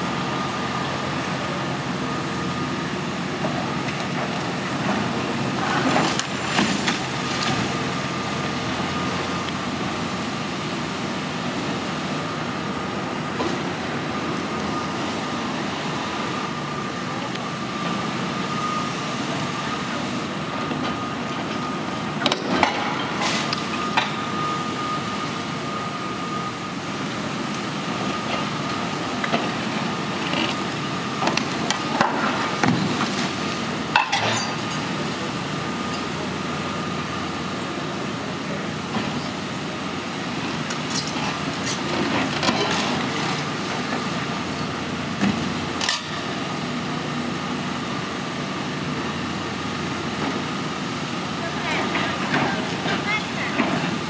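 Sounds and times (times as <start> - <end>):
excavator running with whine: 0.0 - 54.0.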